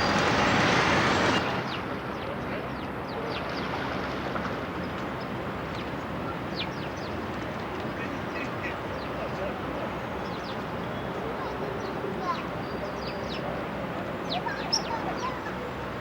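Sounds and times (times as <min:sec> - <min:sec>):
rush of traffic noise: 0:00.0 - 0:16.0.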